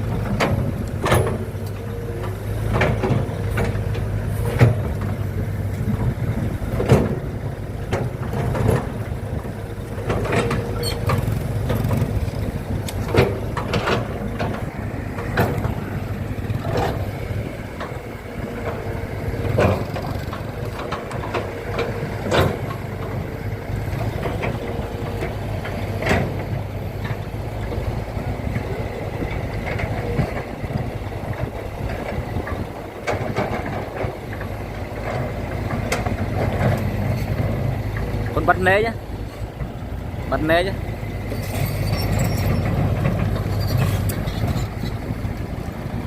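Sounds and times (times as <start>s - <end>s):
large engine humming: 0.0s - 46.0s.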